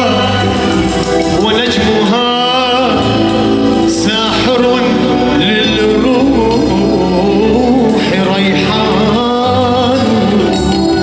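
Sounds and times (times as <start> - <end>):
man singing into a microphone: 0.0 - 11.0
sustained instrumental accompaniment: 0.0 - 11.0.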